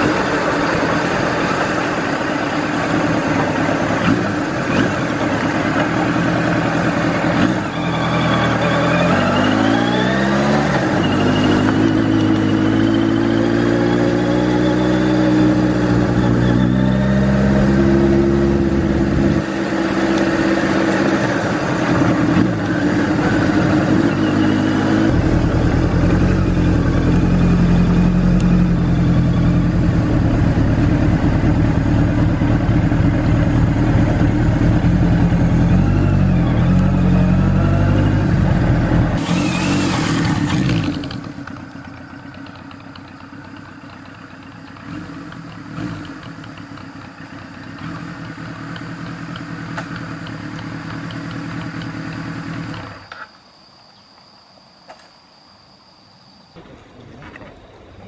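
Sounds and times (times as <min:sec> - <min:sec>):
motorcycle engine revving: 0:00.0 - 0:53.2.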